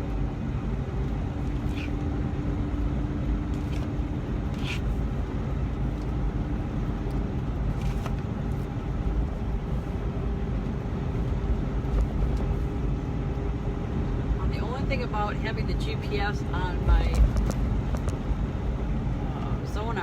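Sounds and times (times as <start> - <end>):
truck engine at highway speed: 0.0 - 20.0.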